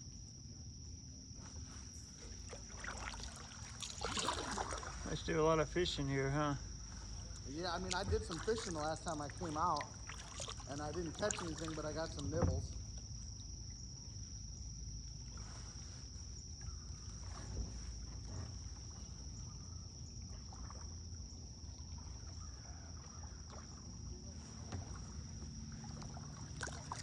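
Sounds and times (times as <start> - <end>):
paddle splashing in water: 1.4 - 6.0, 6.6 - 27.0.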